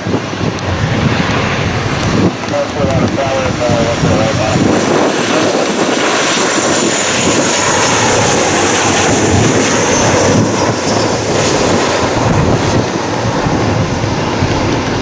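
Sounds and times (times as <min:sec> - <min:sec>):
high engine whine: 0:00.0 - 0:15.0
jet airliner passing: 0:00.0 - 0:15.0.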